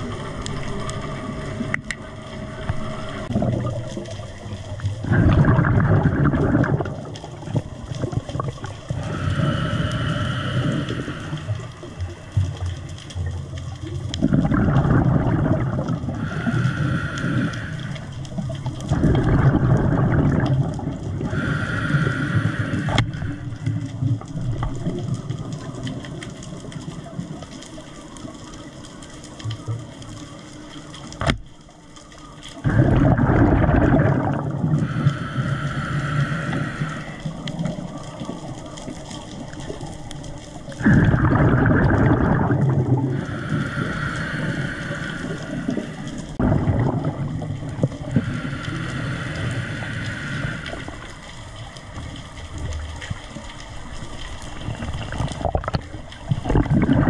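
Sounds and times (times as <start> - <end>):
water sloshing and rushing: 0.0 - 57.0.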